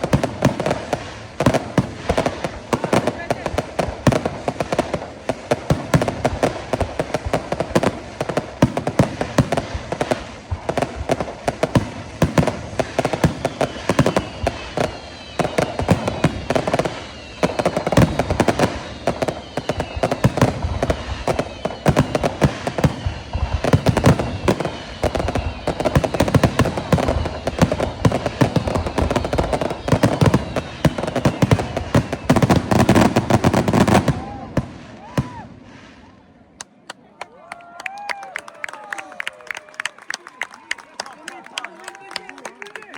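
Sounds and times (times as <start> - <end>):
falling firework whistles: 0.0 - 36.4
fireworks bangs and crackles: 0.0 - 37.0.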